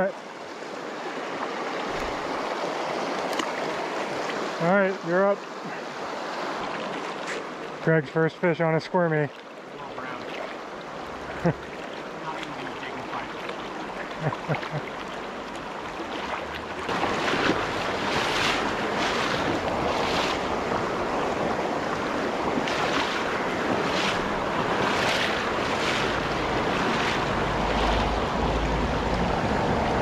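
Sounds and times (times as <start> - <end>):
stream rushing over rocks: 0.0 - 30.0
water swishes: 0.0 - 30.0.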